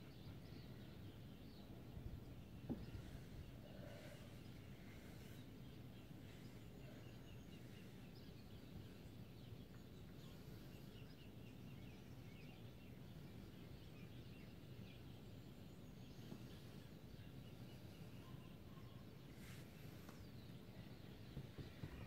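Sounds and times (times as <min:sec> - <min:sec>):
birds chirping: 0:00.0 - 0:22.0
low background rumble: 0:00.0 - 0:22.0.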